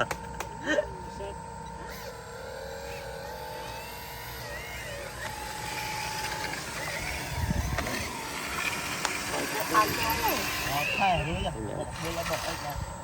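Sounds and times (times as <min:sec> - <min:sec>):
small electric motor whine: 0:00.0 - 0:13.0.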